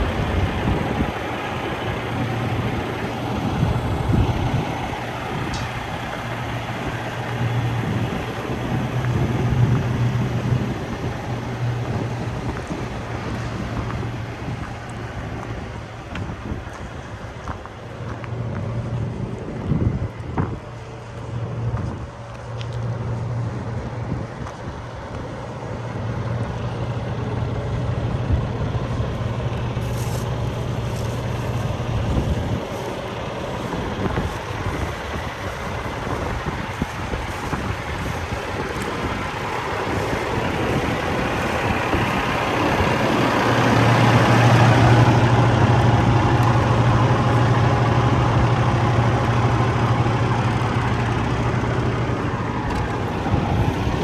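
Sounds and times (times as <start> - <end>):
diesel truck engine humming: 0.0 - 54.0.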